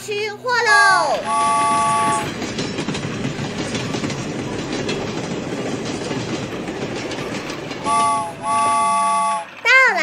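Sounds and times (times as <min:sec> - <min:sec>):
train wheels clattering on rails: 0:00.8 - 0:10.0.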